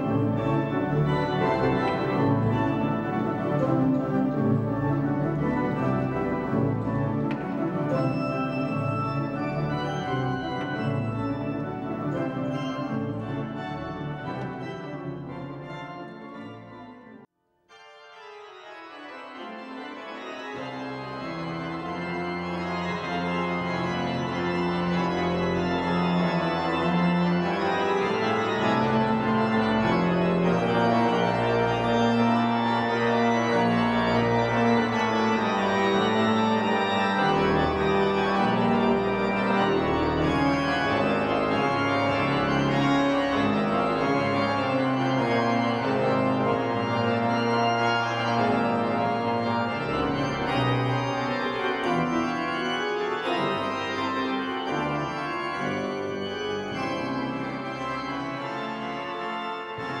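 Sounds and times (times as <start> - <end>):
low organ pedal bass notes: 0.0 - 17.0, 20.4 - 60.0
pipe organ playing chords: 0.0 - 60.0.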